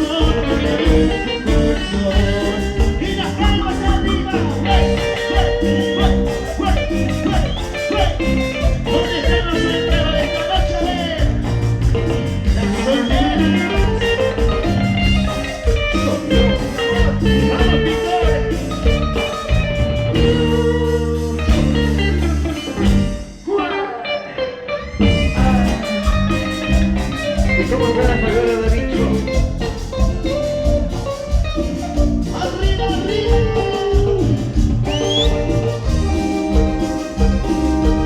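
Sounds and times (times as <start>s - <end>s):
guitar: 0.0s - 38.0s
live band playing latin dance music: 0.0s - 38.0s.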